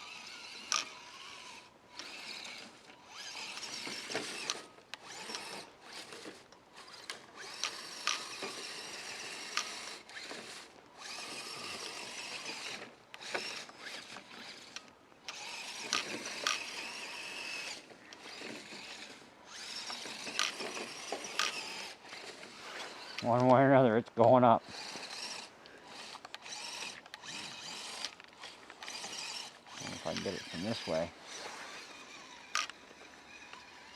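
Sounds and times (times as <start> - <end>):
electric motor whining: 0.0 - 33.9.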